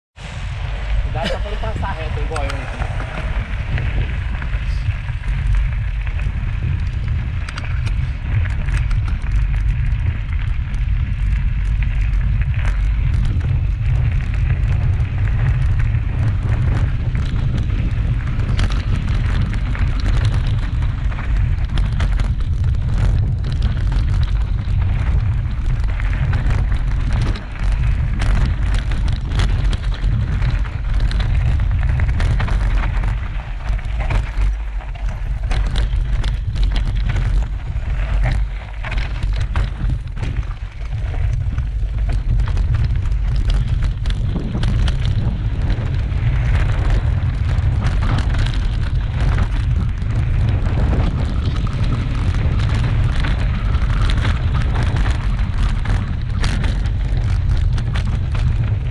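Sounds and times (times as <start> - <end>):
bike rumbling down rocky trail: 0.2 - 58.9
wind buffeting microphone: 0.2 - 58.9
bike rattles and knocks: 1.1 - 58.9.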